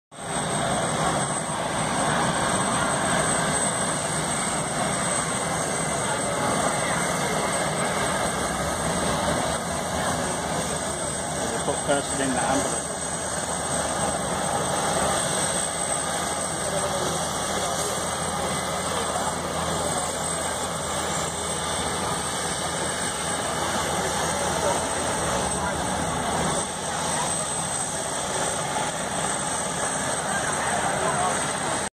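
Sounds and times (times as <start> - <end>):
engine noise: 0.2 - 31.9.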